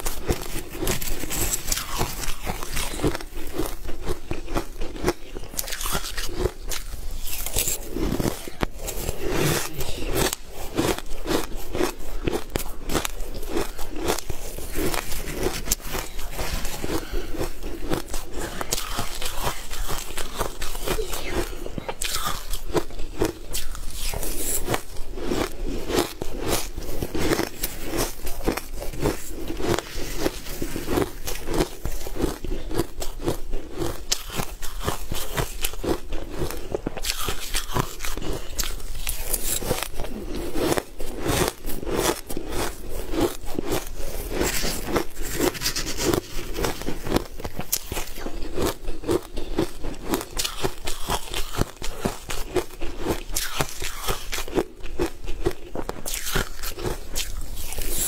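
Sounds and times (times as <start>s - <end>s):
crunching frozen food: 0.0s - 58.0s.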